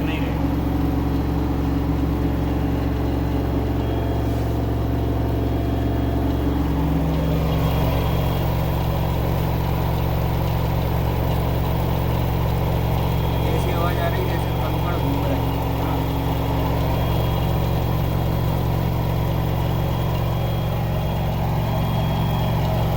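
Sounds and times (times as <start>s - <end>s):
washing machine humming: 0.0s - 22.9s.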